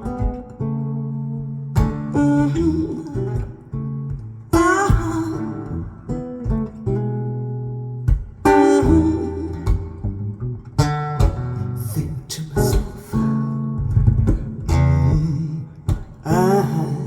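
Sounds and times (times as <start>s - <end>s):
guitar plucking and strumming: 0.0s - 17.0s
bass notes: 1.5s - 17.0s.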